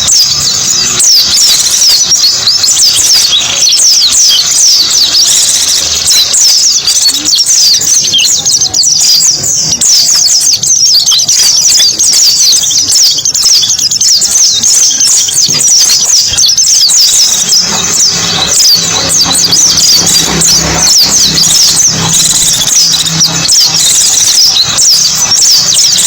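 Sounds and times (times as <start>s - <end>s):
birds twittering: 0.0s - 26.0s.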